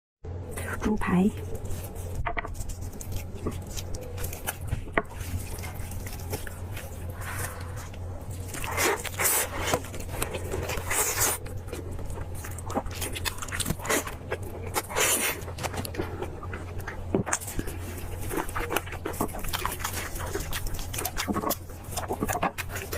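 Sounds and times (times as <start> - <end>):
low electrical hum: 0.2 - 22.9
wet chewing and biting: 1.4 - 22.9.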